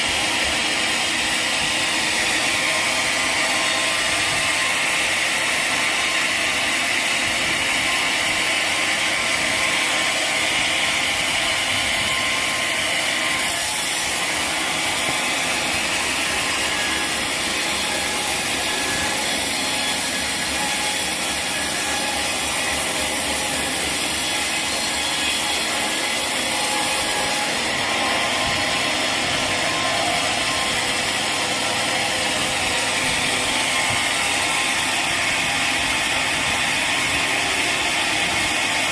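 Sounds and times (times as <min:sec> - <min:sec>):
sawmill machinery rattling: 0:00.0 - 0:38.9.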